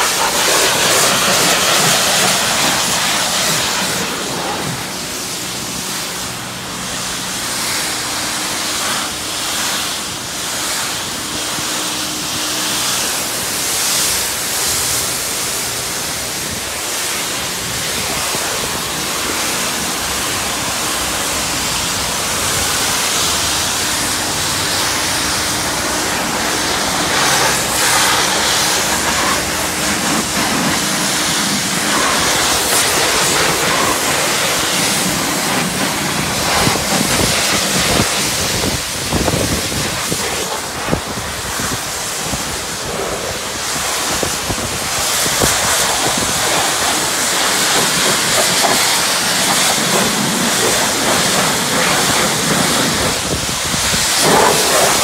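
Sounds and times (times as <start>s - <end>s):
pressure washer spraying car: 0.0s - 55.0s.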